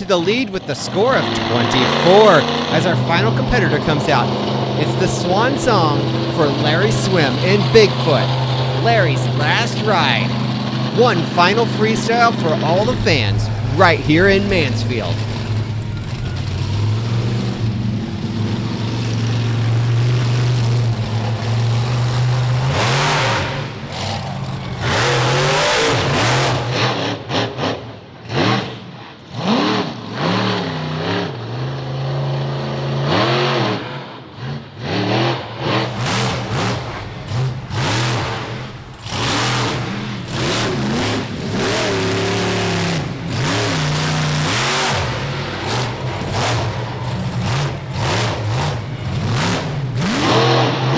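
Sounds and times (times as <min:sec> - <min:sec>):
monster truck engine revving: 0:00.0 - 0:50.9.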